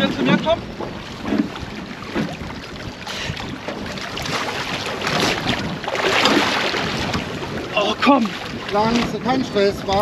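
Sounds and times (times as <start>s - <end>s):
water splashing against boat hull: 0.0s - 10.0s
wind on microphone: 0.0s - 10.0s.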